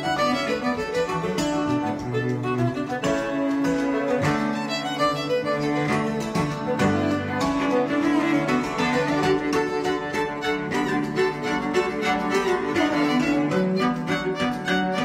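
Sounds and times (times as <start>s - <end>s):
bowed strings music: 0.0s - 15.0s.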